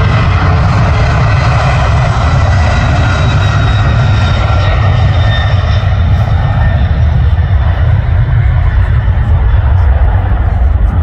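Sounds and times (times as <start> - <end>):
jet engines at takeoff power: 0.0 - 11.0.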